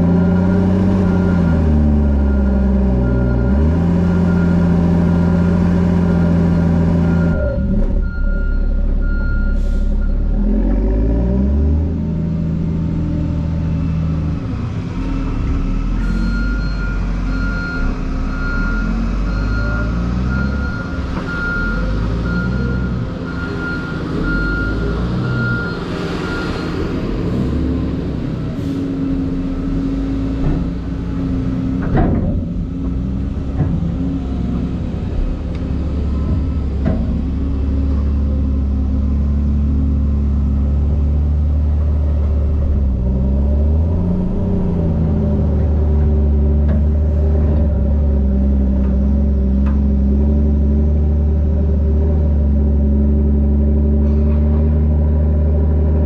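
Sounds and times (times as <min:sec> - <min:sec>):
diesel construction machinery running: 0:00.0 - 0:56.0.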